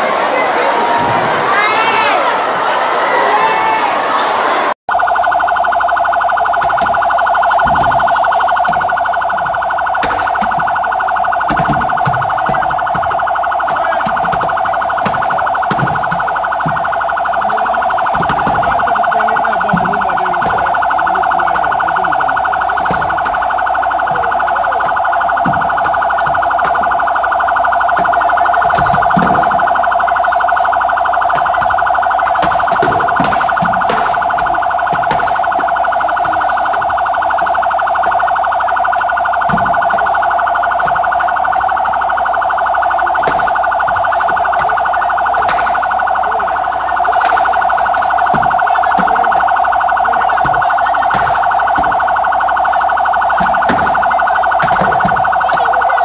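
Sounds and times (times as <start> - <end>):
voices: 0.0 - 56.0
electronic siren warbling: 4.9 - 56.0.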